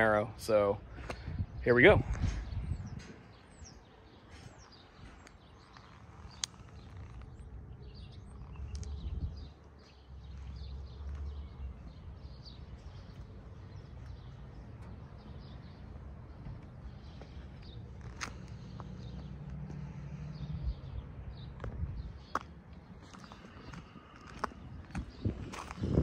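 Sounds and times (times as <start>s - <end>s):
low outdoor rumble: 0.0s - 26.0s
small birds chirping: 0.0s - 26.0s.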